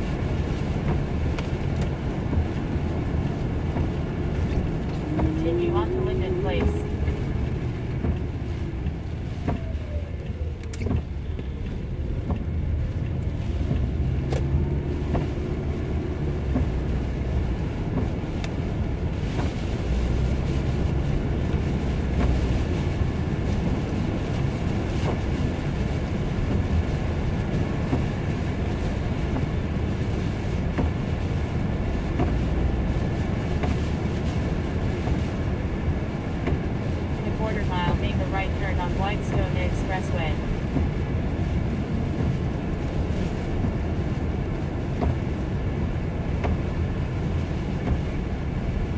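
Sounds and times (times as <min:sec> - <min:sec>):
car engine and tyre rumble: 0:00.0 - 0:48.9
tyres hissing on wet road: 0:00.0 - 0:48.9.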